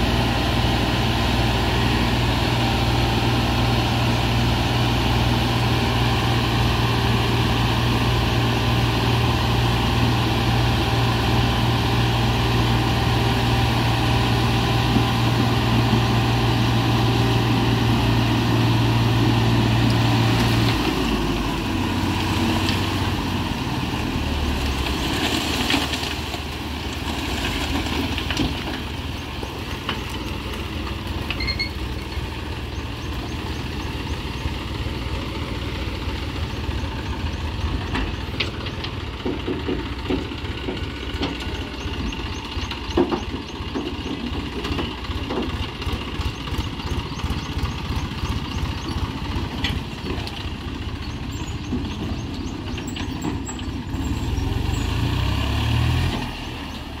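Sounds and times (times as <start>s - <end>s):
tractor diesel engine throbbing: 0.0s - 57.0s.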